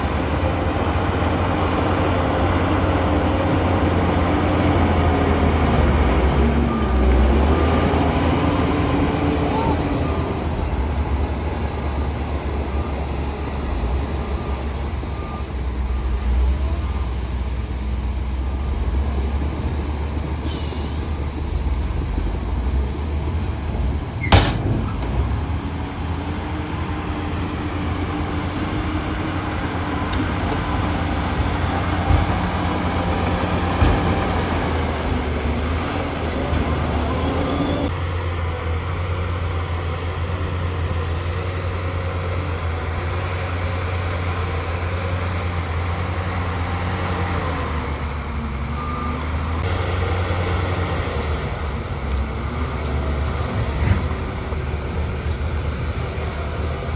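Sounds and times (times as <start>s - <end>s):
heavy diesel engines rumbling: 0.0s - 56.9s.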